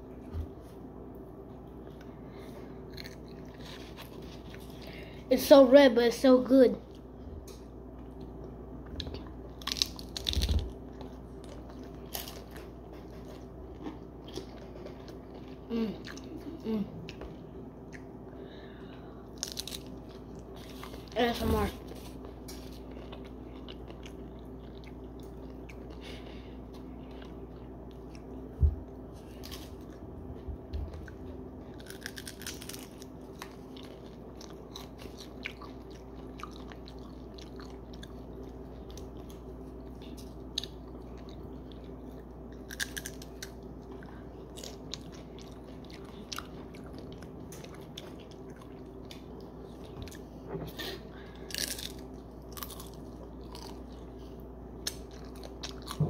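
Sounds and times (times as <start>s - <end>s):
faint steady hum: 0.0s - 56.0s
chewing and crunching chips: 1.6s - 5.2s, 6.8s - 56.0s.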